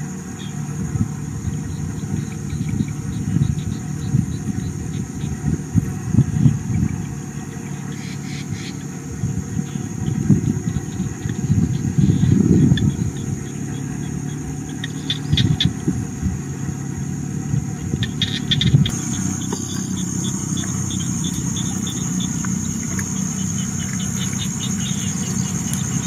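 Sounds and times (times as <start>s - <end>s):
high-pitched insect drone: 0.0s - 26.0s
pulsing insect chirps: 0.0s - 26.0s.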